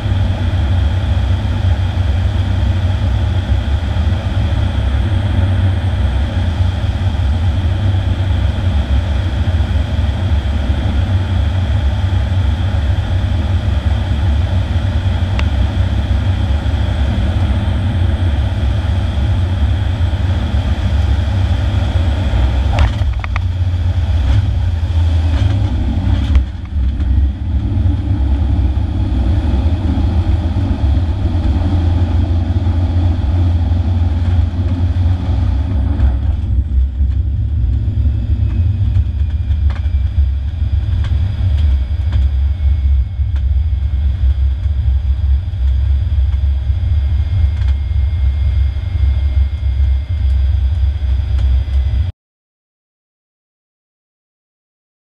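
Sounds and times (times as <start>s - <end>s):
runway rumble: 0.0s - 52.1s
turboprop engine drone: 0.0s - 52.1s.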